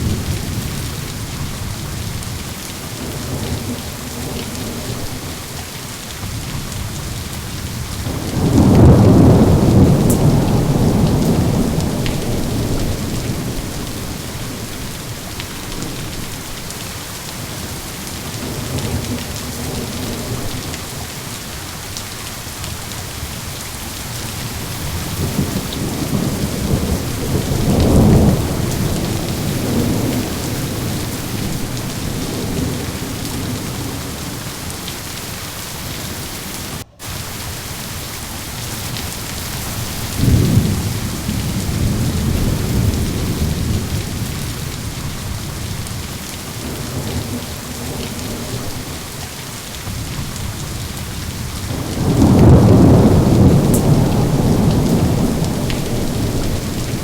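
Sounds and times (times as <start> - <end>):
thunder rumbling: 0.0 - 5.6, 6.2 - 21.4, 24.1 - 57.0
rain hissing: 0.0 - 57.0.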